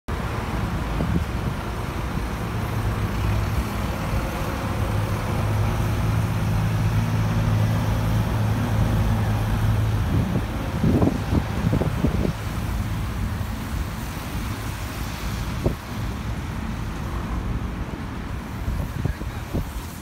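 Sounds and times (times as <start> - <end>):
bus diesel engine passing: 0.1 - 20.0
road traffic noise: 0.1 - 20.0.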